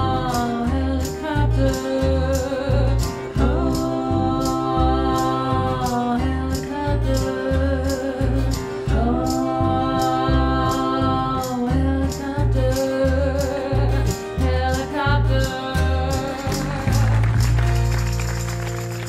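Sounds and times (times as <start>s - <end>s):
woman singing: 0.0s - 17.4s
plucked upright bass: 0.0s - 19.0s
strummed acoustic guitar: 0.0s - 19.0s.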